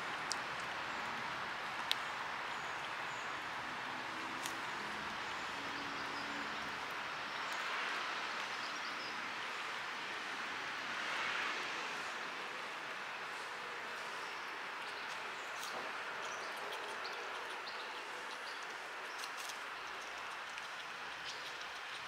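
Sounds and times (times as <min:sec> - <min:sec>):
distant traffic: 0:00.0 - 0:22.0.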